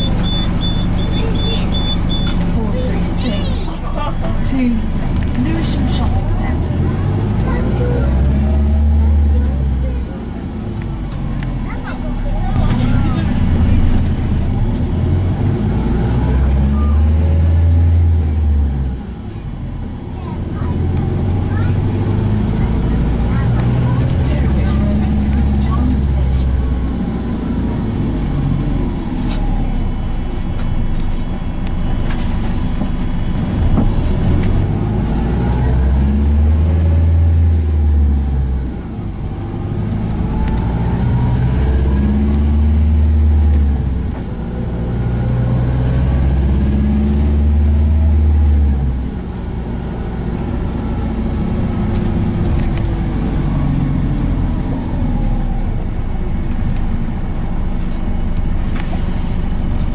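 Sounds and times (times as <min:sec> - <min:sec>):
bus engine drone: 0:00.0 - 0:59.9
bus road rumble: 0:00.0 - 0:59.9
bus whine: 0:00.0 - 0:59.9.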